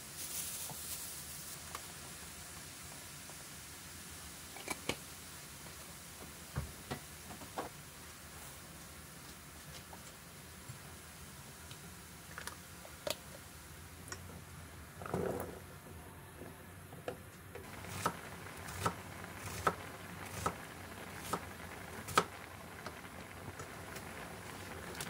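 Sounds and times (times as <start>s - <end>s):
sauce simmering in a frying pan: 0.0s - 15.2s, 17.6s - 25.0s.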